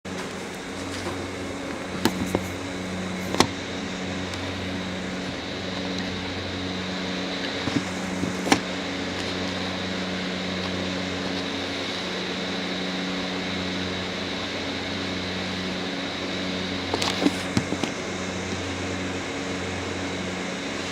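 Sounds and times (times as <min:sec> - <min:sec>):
mechanical hum: 0:00.1 - 0:20.9.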